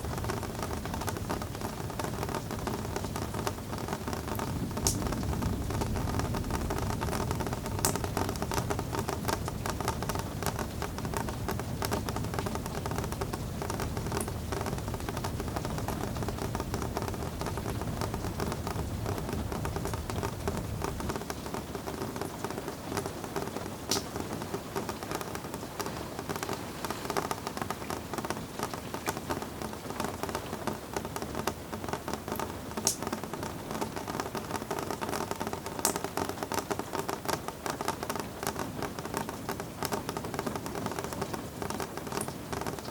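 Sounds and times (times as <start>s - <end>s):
rain patter: 0.0s - 42.9s.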